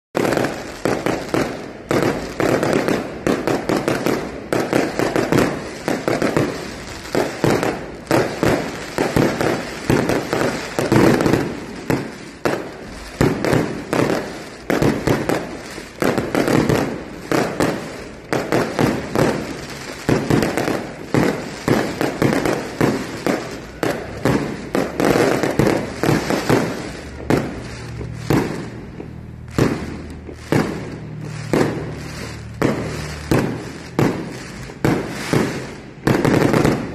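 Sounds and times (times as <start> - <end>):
fireworks bangs: 0.2 - 36.9
fireworks crackling: 0.2 - 36.9.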